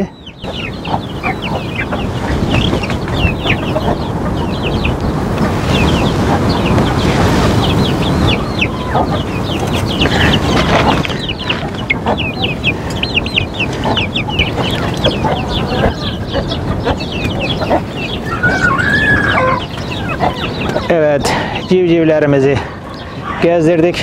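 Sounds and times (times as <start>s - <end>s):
chicks peeping: 0.0s - 24.0s
hen clucking: 0.0s - 24.0s.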